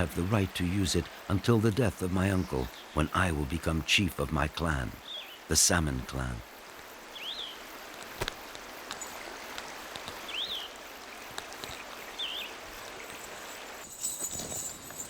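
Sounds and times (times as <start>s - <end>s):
stream water rushing: 0.0s - 13.9s.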